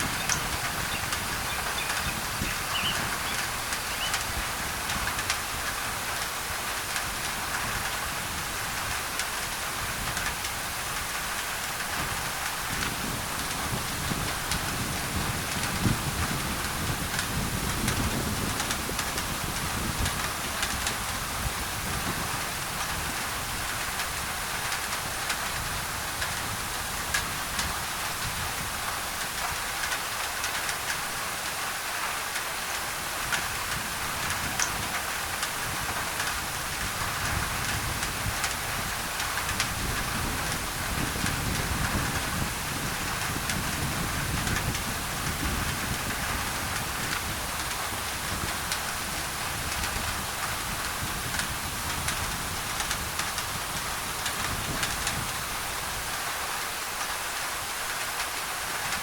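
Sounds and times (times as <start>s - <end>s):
rain on a tin roof: 0.0s - 59.0s
white noise: 0.0s - 59.0s.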